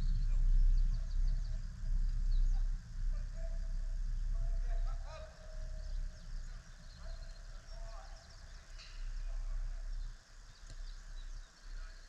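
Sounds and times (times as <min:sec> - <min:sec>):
distant calls: 0:00.0 - 0:12.0
low rumble: 0:00.0 - 0:12.0.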